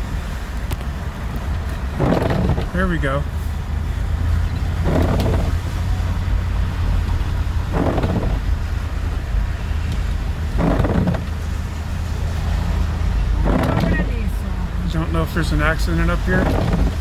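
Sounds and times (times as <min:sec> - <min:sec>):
engine and tyre rumble: 0:00.0 - 0:17.0
tyres swishing on wet road: 0:00.0 - 0:17.0.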